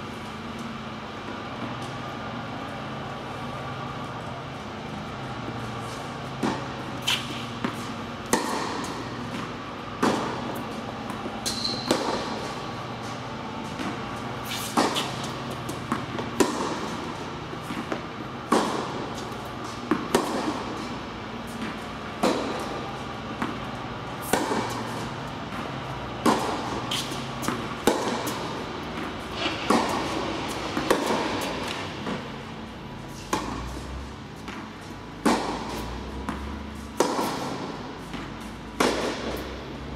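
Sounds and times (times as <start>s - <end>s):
racquets striking tennis ball: 0.1s - 39.9s
tennis ball bouncing: 4.8s - 39.8s.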